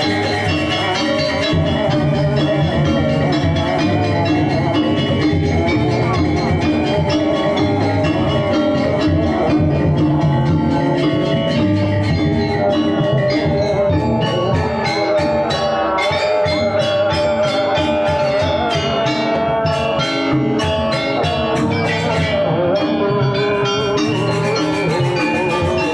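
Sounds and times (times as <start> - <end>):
gamelan ensemble playing: 0.0 - 25.9.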